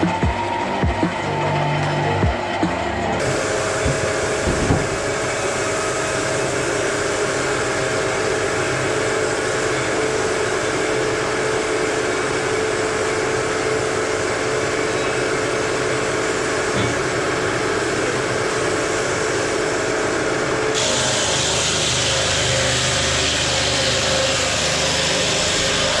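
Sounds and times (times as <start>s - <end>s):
sawmill machinery whirring: 0.0s - 26.0s.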